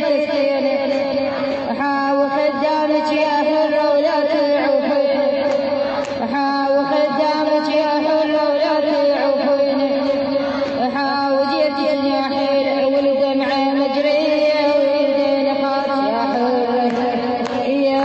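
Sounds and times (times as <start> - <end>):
woman chanting: 0.0 - 18.0.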